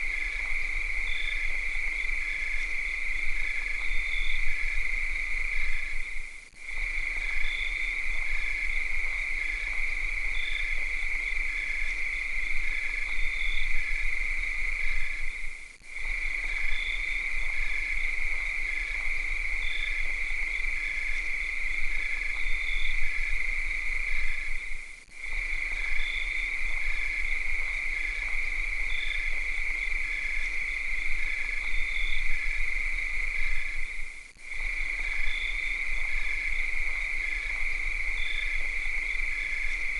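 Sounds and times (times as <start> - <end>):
cicadas shrilling: 0.0 - 39.9
pulsing insect call: 0.0 - 39.9.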